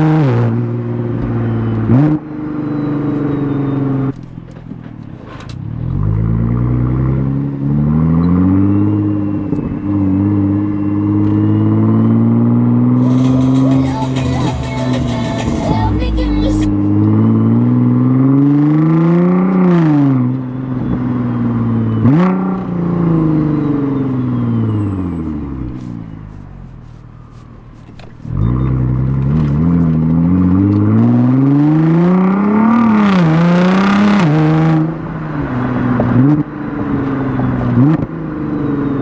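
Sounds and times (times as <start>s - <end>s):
car engine revving through upshifts: 0.0s - 4.4s, 5.2s - 39.0s.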